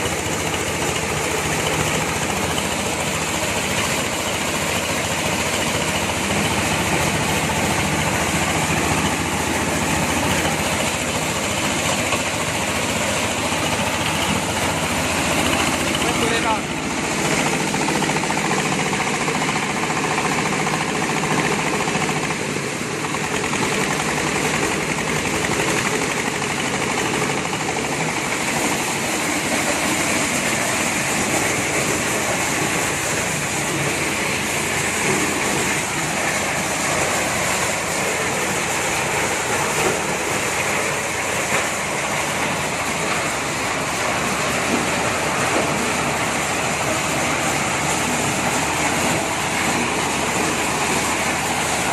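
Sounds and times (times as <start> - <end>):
engine-driven corn sheller running: 0.0 - 51.9.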